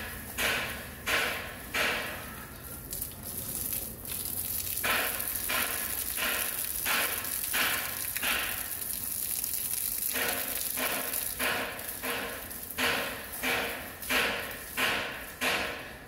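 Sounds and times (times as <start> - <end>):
water spattering on tiles: 1.9 - 15.4
garden hose spraying water: 2.5 - 15.4.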